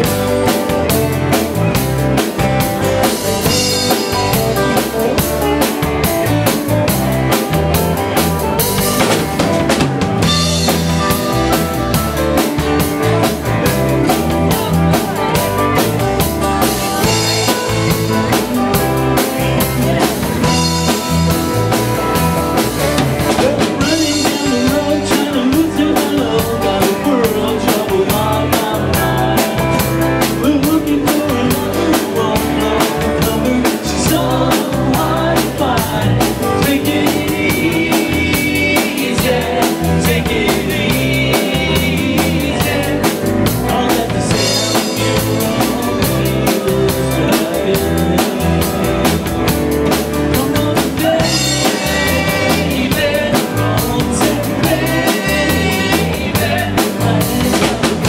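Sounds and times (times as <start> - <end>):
drum kit beat: 0.0 - 58.0
electric bass: 0.0 - 58.0
electric guitar: 0.0 - 58.0.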